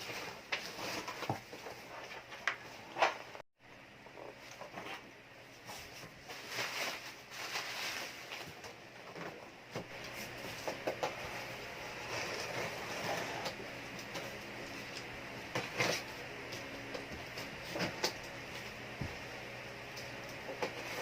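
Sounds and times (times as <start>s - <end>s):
plastic and bubble wrap crinkling: 0.0s - 2.8s, 4.4s - 19.4s.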